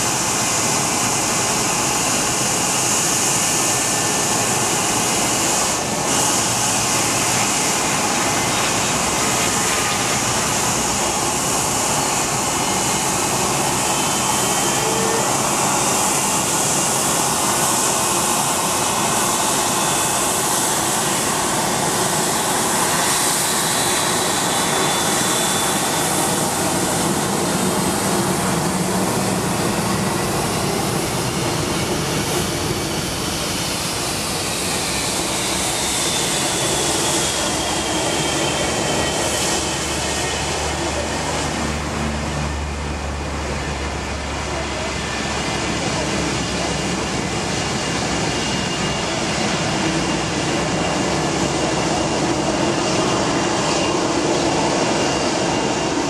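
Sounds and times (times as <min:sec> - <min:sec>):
jet engines at takeoff power: 0:00.0 - 0:56.0.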